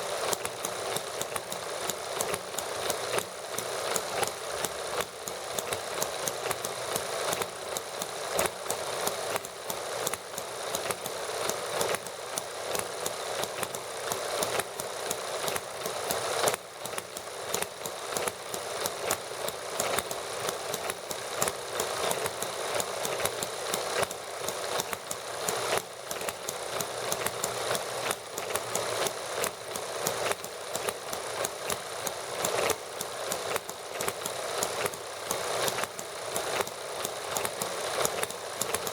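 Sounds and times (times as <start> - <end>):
small model gasoline engines running: 0.0 - 38.9.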